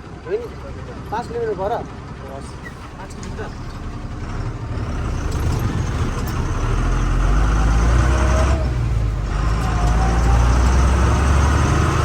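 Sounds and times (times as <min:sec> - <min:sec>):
truck diesel engine pulling away: 0:00.0 - 0:12.0.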